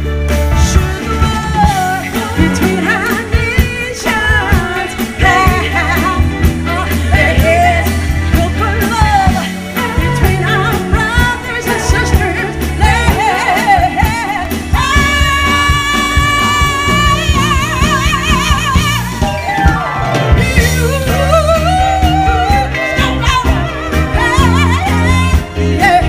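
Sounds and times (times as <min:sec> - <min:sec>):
bass line: 0:00.0 - 0:26.0
live band playing: 0:00.0 - 0:26.0
woman singing with vibrato: 0:00.5 - 0:26.0.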